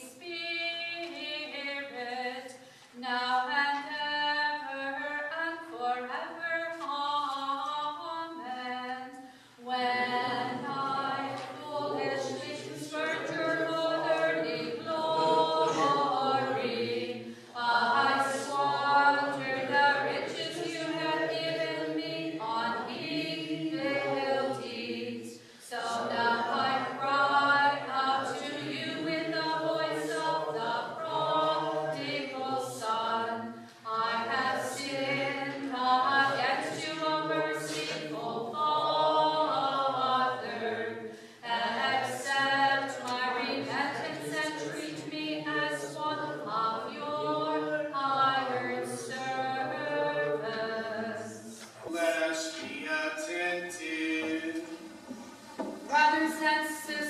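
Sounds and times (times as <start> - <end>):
group singing a cappella chant: 0.0 - 57.0.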